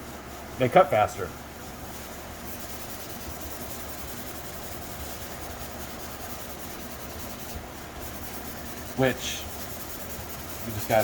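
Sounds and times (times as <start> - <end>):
hand sanding hiss: 1.9 - 11.0.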